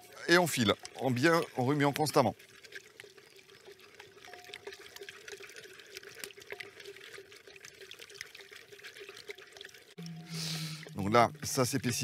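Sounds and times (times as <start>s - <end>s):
liquid pouring into a pot: 0.1s - 12.0s.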